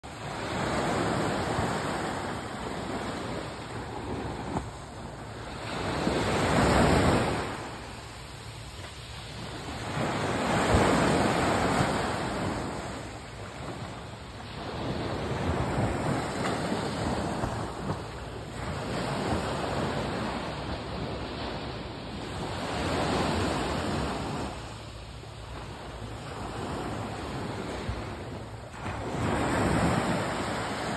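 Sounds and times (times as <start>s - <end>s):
sea waves washing up a beach: 0.0s - 30.9s.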